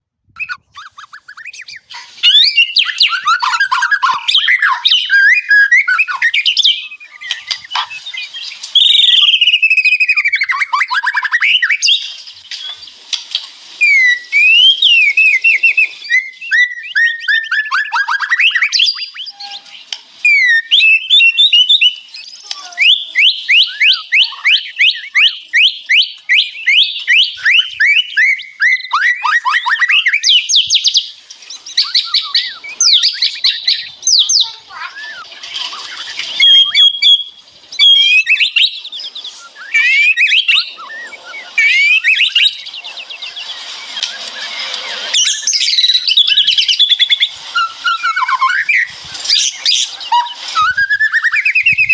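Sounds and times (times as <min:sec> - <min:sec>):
bird singing whistles and trills: 0:00.3 - 0:13.0, 0:13.8 - 0:51.9.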